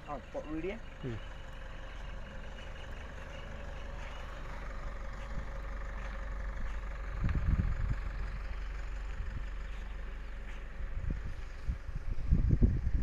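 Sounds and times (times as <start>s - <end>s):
vehicle engine idling: 0.0s - 13.0s
low rumble: 0.8s - 13.0s.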